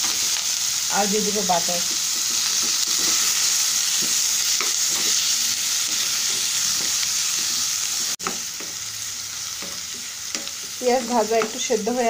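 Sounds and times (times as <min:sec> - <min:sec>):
vegetables sizzling in butter: 0:00.0 - 0:12.0
spatula stirring in wok: 0:01.8 - 0:11.6.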